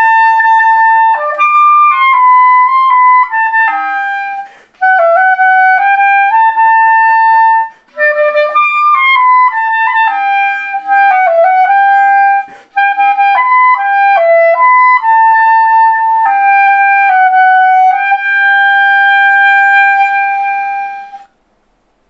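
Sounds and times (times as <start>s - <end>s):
solo clarinet melody: 0.0s - 21.4s.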